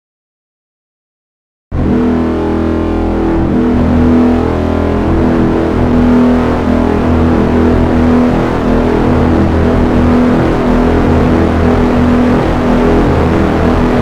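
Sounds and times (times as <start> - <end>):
ship's horn blast: 1.7 - 14.0.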